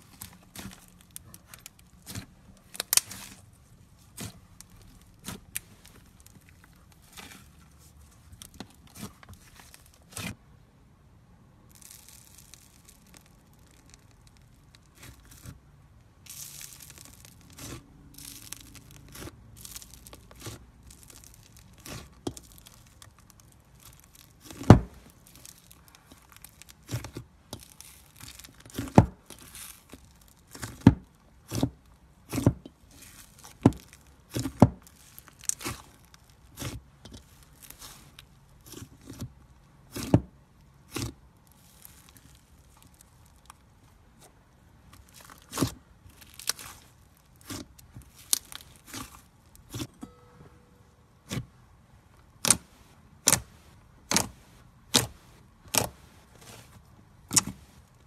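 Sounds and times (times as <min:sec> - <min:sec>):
crunchy slime crackling: 0:00.0 - 0:10.4, 0:11.6 - 0:50.0, 0:51.1 - 0:58.0.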